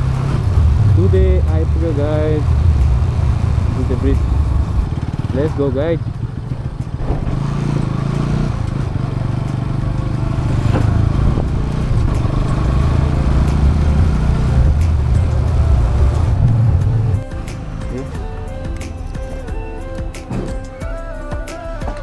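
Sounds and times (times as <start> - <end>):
motorcycle engine riding: 0.0 - 20.6.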